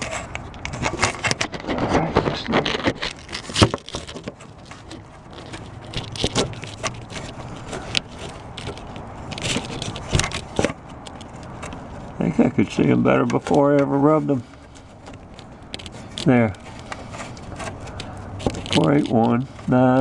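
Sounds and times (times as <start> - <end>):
small knocks: 0.0 - 20.0
sandpaper scraping metal: 2.2 - 20.0.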